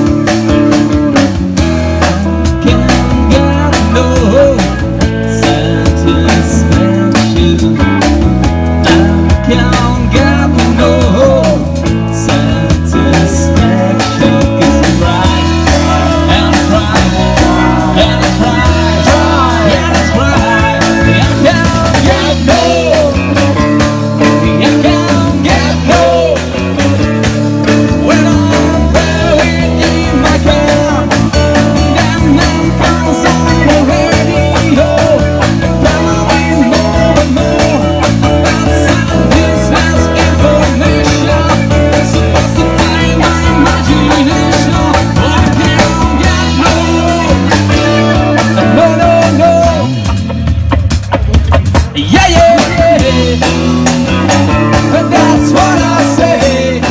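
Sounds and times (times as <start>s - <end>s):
bass guitar: 0.0s - 56.9s
electric guitar: 0.0s - 56.9s
steady drum beat: 0.0s - 56.9s
person singing: 2.0s - 50.3s, 51.8s - 56.9s.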